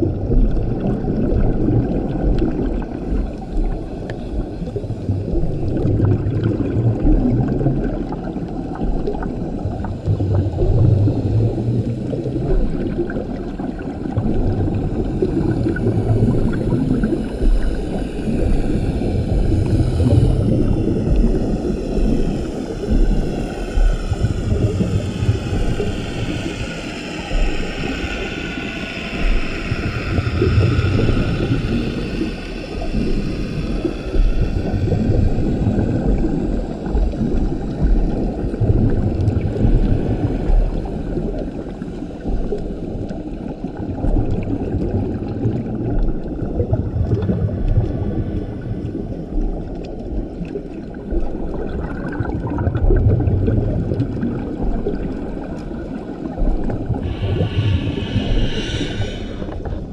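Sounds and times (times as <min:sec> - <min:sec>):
diver breathing through regulator: 0:00.0 - 0:52.3, 0:54.4 - 0:59.9
exhaled bubbles rumbling: 0:00.0 - 0:59.9.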